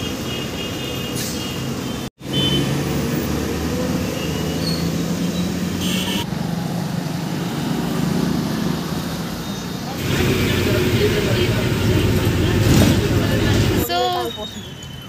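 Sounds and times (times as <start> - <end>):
road traffic: 0.0 - 15.0
bus engine running: 1.1 - 14.8.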